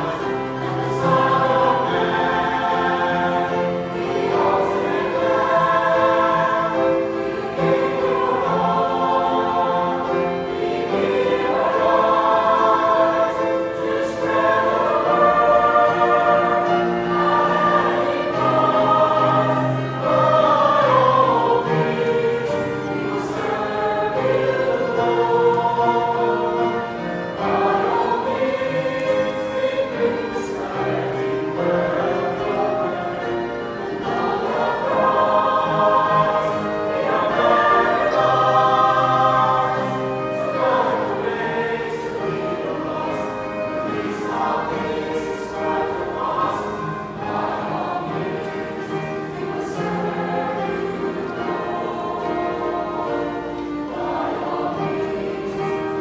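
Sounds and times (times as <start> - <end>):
church choir singing a hymn: 0.0 - 56.0.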